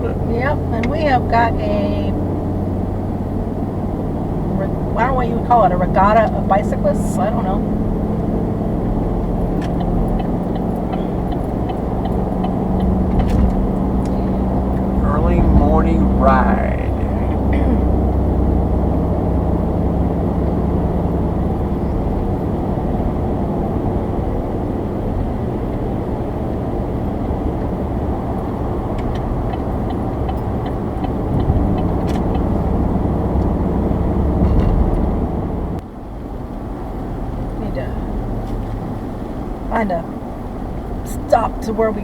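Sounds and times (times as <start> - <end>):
engine drone: 0.0 - 42.0.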